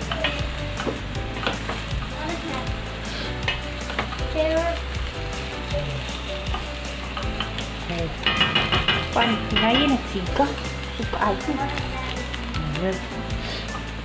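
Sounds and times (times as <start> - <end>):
beans and pork sizzling in pan: 0.0 - 14.0.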